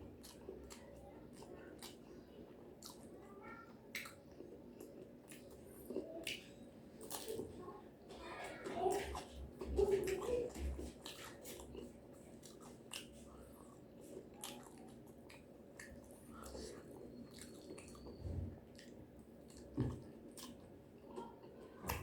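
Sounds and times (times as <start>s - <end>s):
person chewing crunchy food: 0.0s - 2.1s, 3.9s - 7.6s, 8.9s - 21.7s.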